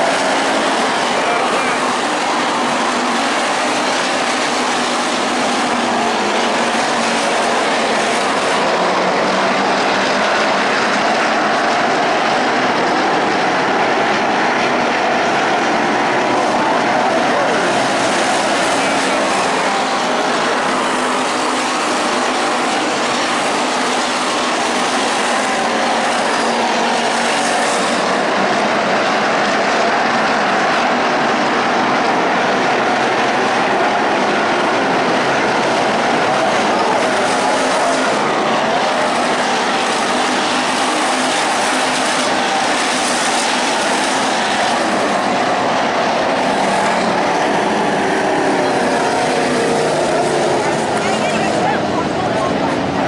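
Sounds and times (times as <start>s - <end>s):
race car engines roaring: 0.0s - 53.0s.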